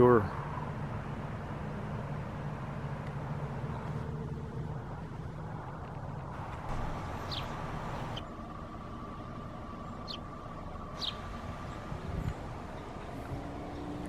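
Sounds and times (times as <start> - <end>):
vehicle road and engine rumble: 0.0 - 14.0.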